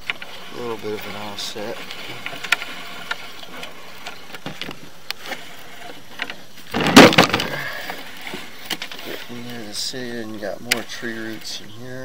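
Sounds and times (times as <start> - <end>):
cable scraping rattle: 0.0 - 12.0.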